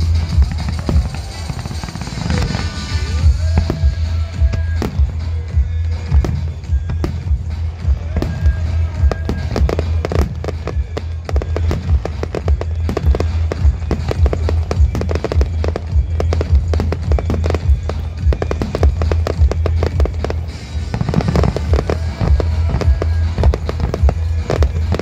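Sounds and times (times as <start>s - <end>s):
fireworks bursting and crackling: 0.0s - 25.0s
music: 0.0s - 25.0s.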